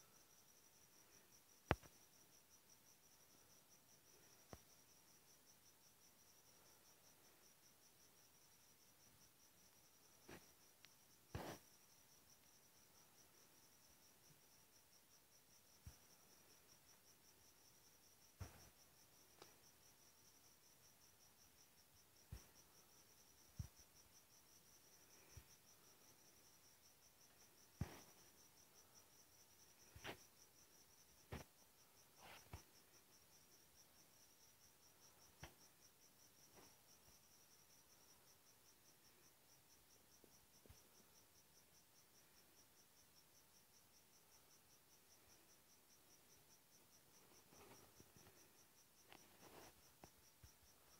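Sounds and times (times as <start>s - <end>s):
cricket chirping: 0.0s - 50.9s.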